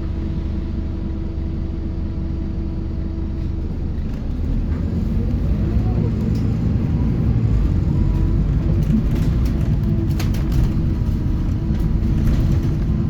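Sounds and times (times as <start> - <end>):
bus diesel engine running: 0.0 - 13.0
low road noise: 0.0 - 13.0.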